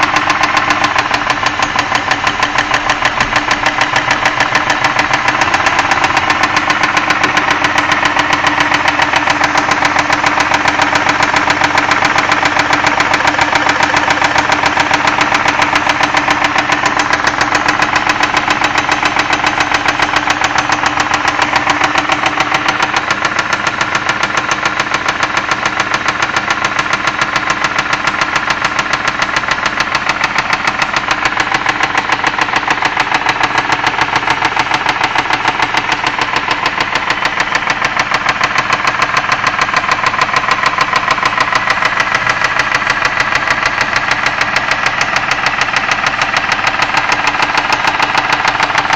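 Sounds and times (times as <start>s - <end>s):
car engine knocking: 0.0s - 48.9s.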